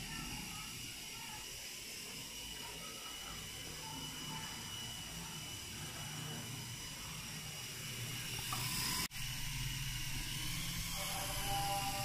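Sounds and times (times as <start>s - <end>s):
toy helicopter rotors whirring: 0.0s - 12.0s.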